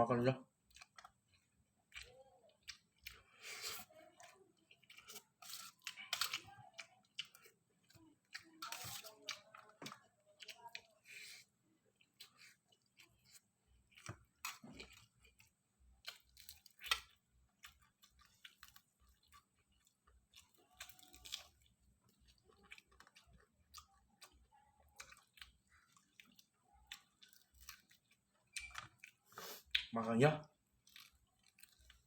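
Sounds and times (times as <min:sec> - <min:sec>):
person chewing with mouth clicks: 0:00.7 - 0:29.9.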